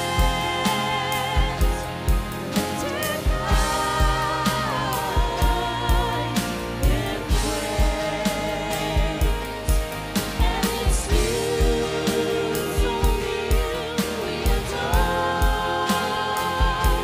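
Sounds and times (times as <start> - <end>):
electric and acoustic guitars: 0.0 - 17.0
voices singing together: 0.0 - 17.0.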